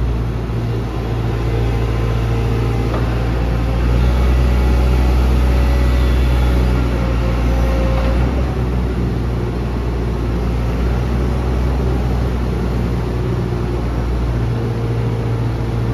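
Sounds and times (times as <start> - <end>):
excavator diesel engine running: 0.0 - 15.9.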